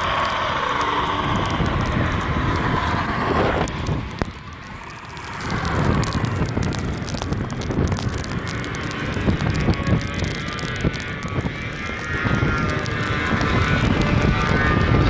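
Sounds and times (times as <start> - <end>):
vehicle rumble: 0.0 - 15.0
wind buffeting microphone: 0.0 - 15.0.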